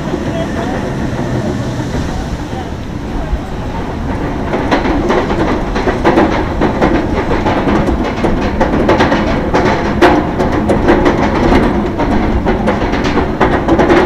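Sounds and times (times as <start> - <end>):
lift chain rumbling: 0.0 - 14.0.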